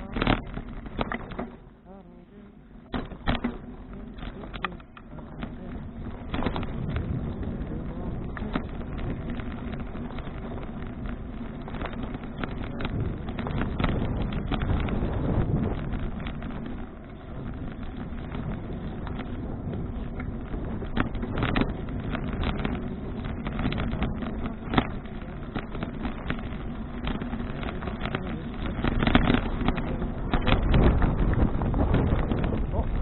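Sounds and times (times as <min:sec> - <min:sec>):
bicycle knocks and rattles: 0:00.0 - 0:01.8, 0:02.8 - 0:33.0
wind rumbling on microphone: 0:00.0 - 0:33.0.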